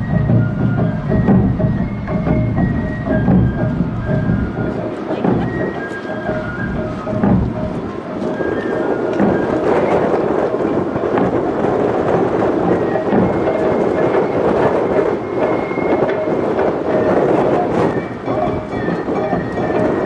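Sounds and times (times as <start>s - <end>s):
drums beating: 0.0s - 20.0s
gongs beating: 0.0s - 20.0s
high bamboo flute melody: 0.0s - 20.0s.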